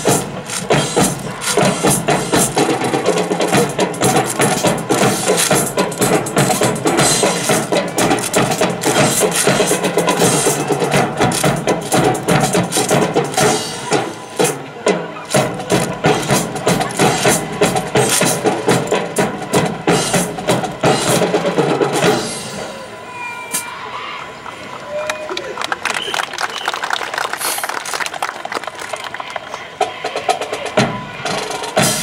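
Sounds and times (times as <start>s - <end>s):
marching drum line cadence: 0.0s - 23.6s, 24.2s - 32.0s.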